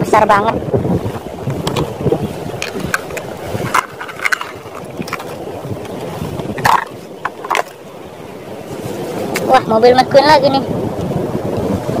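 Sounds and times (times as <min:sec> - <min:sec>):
flowing water: 0:00.0 - 0:12.0.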